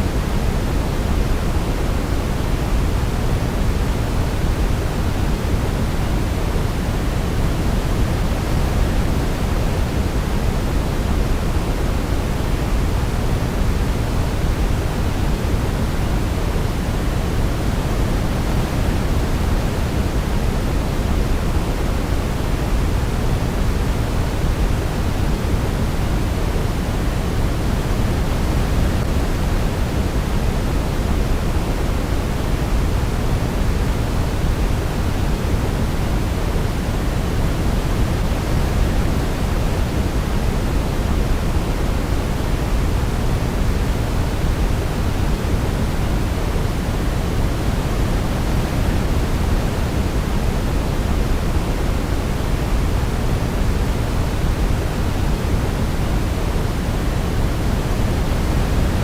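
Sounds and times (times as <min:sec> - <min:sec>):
steady deep hiss noise: 0:00.0 - 0:59.0.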